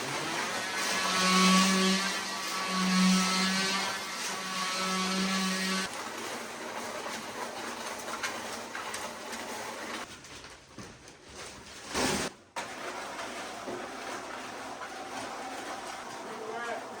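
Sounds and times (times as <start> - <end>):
mud mixer churning concrete: 0.0 - 17.0.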